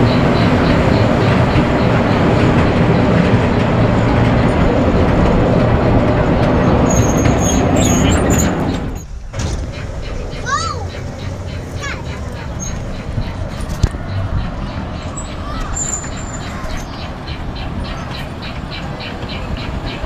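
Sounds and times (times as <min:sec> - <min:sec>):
small train rumble and rattle: 0:00.0 - 0:20.0.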